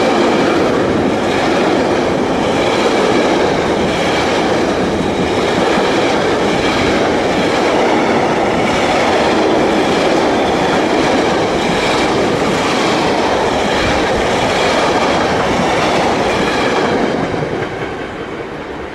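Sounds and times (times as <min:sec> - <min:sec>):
freight wagons rumbling on rails: 0:00.0 - 0:18.9.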